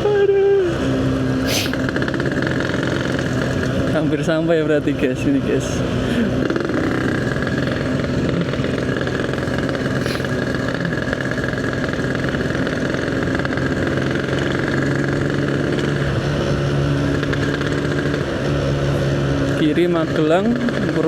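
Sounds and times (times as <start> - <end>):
two-stroke motorcycle engine running: 0.0 - 21.0.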